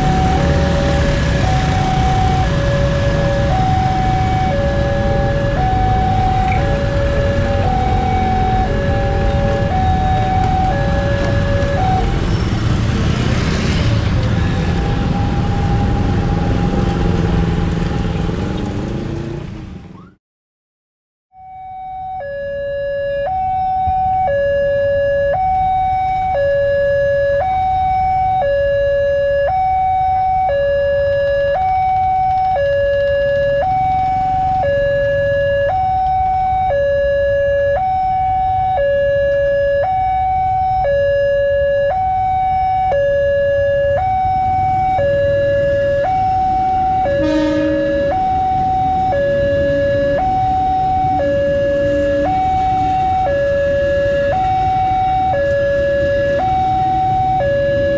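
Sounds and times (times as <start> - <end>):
two-tone crossing alarm: 0.0 - 12.2, 14.7 - 16.8, 21.3 - 57.9.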